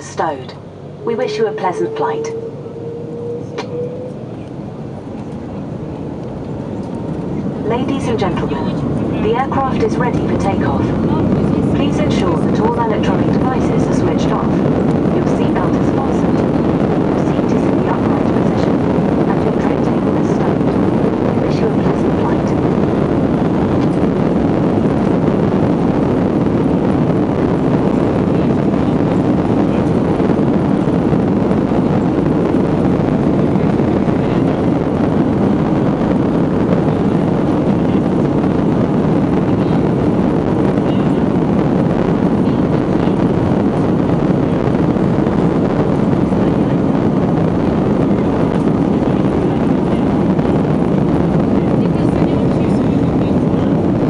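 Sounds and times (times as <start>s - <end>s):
jet engines at takeoff thrust: 0.0s - 54.0s
wheels rumbling on runway: 0.0s - 54.0s.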